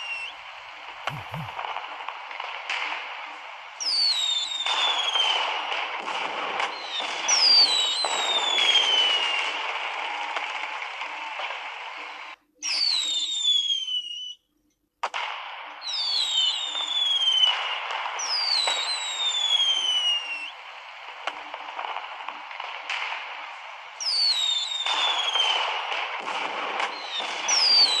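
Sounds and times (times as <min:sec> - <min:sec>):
falling firework whistles: 0:00.0 - 0:02.9, 0:03.8 - 0:14.5, 0:15.8 - 0:22.0, 0:22.9 - 0:28.0
sharp firework cracks: 0:00.0 - 0:12.2, 0:15.0 - 0:28.0
fireworks crackling: 0:00.0 - 0:12.4, 0:15.0 - 0:28.0.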